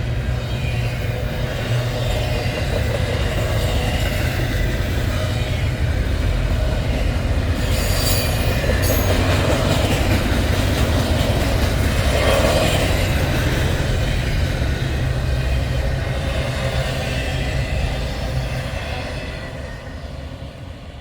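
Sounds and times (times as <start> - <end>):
freight train rumbling past: 0.0 - 21.0
wheels squealing on rails: 0.0 - 21.0.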